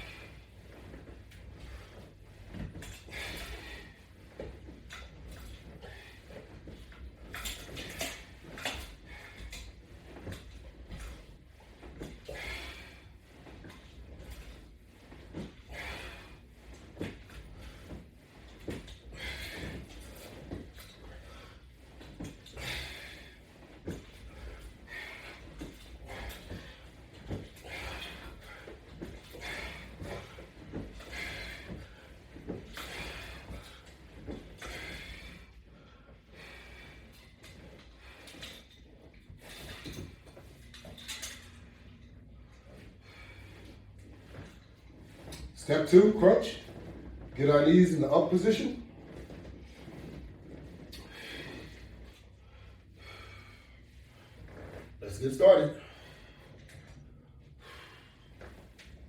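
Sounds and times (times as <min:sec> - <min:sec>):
straps creaking and knocking: 0:00.0 - 0:55.6.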